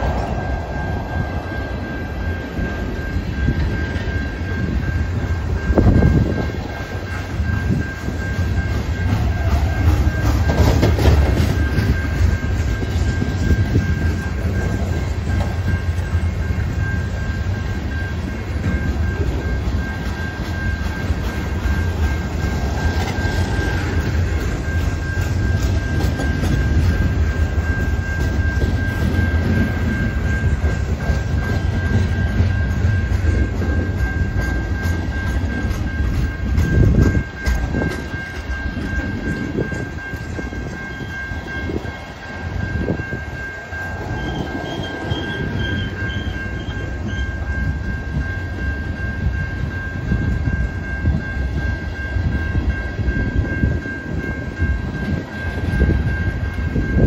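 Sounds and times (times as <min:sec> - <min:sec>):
steady high-pitched tone: 0:00.0 - 0:57.0
steel wheels rumbling on rails: 0:00.0 - 0:57.0.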